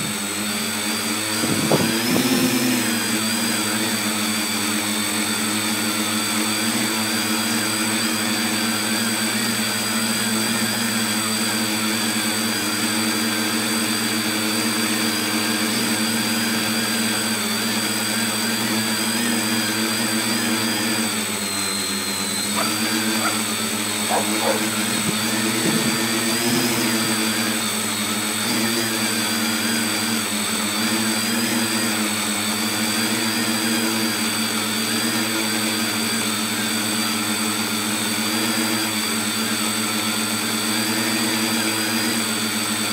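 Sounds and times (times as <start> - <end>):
drone motors and propellers whining: 0.0 - 42.9.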